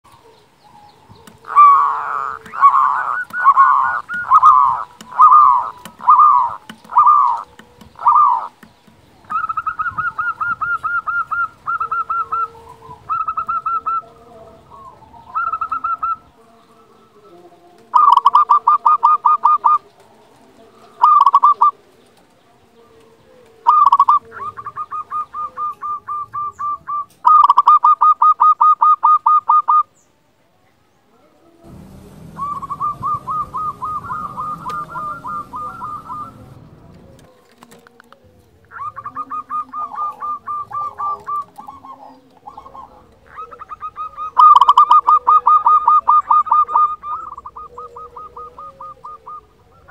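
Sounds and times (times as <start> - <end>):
dove cooing: 0.0 - 29.9, 31.5 - 49.9.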